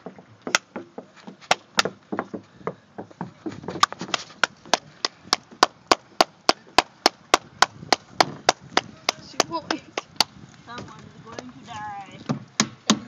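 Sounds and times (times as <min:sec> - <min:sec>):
soft uneven knocks: 0:00.0 - 0:11.5.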